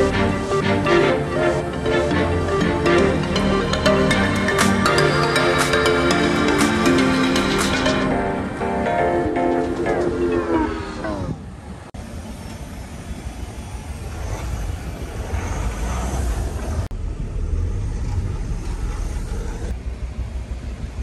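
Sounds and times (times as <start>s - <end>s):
road and wind noise: 0.0s - 21.0s
vehicle engine rumble: 0.0s - 21.0s.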